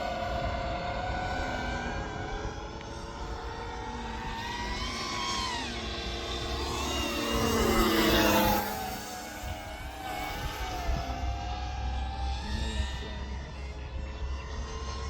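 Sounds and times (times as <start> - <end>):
model plane electric motor: 0.0 - 15.0.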